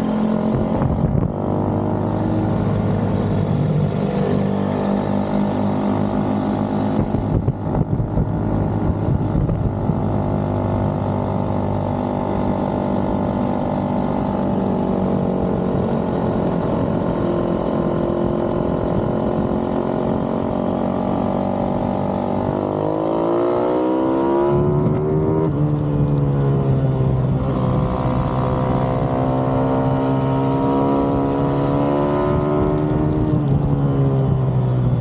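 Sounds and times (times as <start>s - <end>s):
motorbike engine revving: 0.0s - 33.8s.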